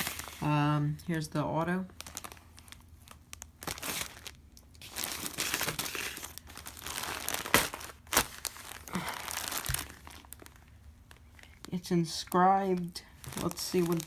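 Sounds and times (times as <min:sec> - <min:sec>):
plastic packaging crinkling: 0:00.0 - 0:00.5, 0:01.7 - 0:14.0.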